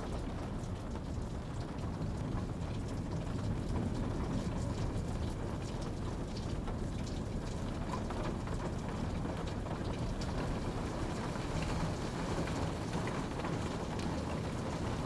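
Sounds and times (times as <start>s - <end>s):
steady rain falling: 0.0s - 15.0s
raindrop ticks: 0.1s - 15.0s.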